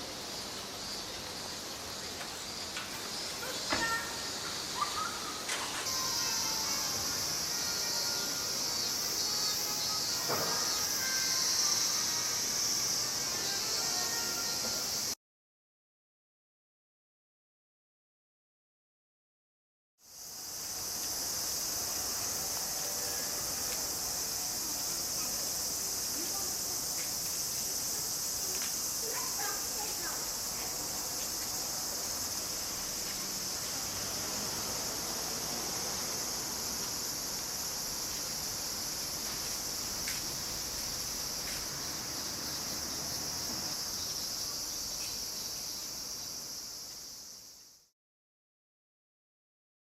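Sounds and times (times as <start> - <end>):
cicadas singing: 0.0 - 15.2, 20.0 - 47.9.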